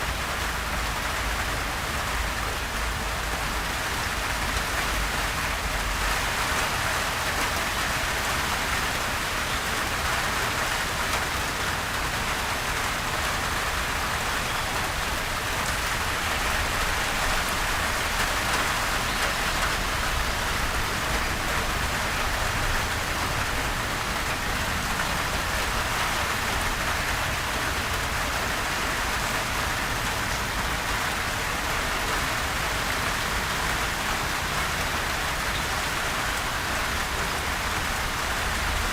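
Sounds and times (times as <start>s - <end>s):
light rain patter: 0.0s - 38.9s.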